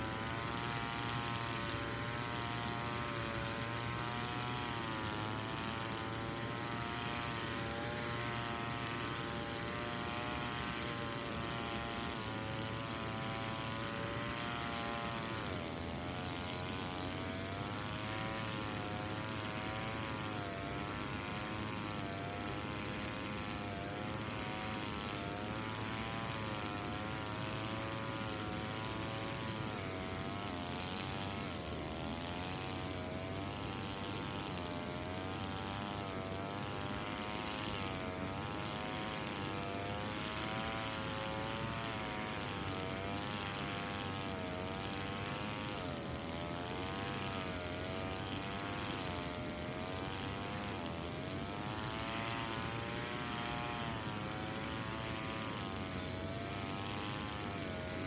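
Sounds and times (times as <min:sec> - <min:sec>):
brush cutter engine at high revs: 0:00.0 - 0:58.0.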